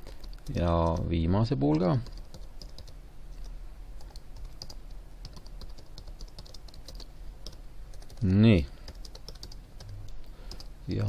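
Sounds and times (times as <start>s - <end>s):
computer keyboard typing: 0.0s - 10.7s.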